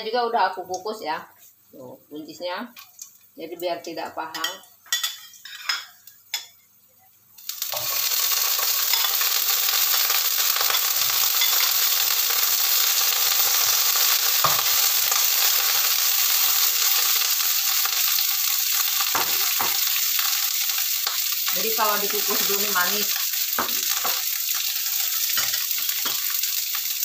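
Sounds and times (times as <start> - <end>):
green beans sizzling in oil: 0.9 - 27.0.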